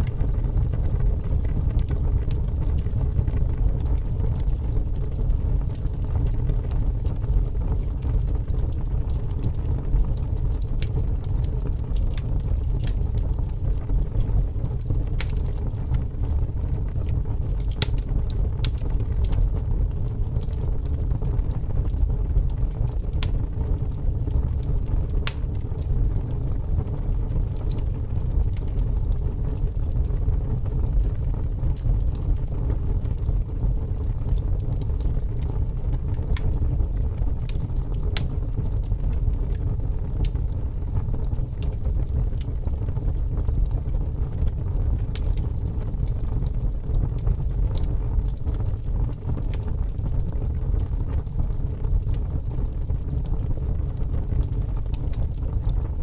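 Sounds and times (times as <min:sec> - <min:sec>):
fire burning with low rumble: 0:00.0 - 0:56.0
fire crackling and popping: 0:00.0 - 0:56.0.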